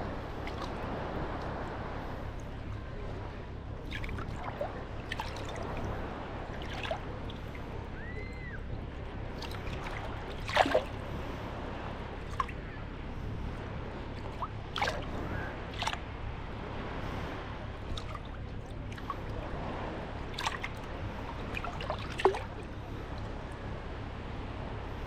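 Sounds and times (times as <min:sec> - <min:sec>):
waves lapping at shoreline: 0:00.0 - 0:25.0
water splashes: 0:00.1 - 0:11.1, 0:12.1 - 0:12.8, 0:14.0 - 0:16.6, 0:17.4 - 0:23.4.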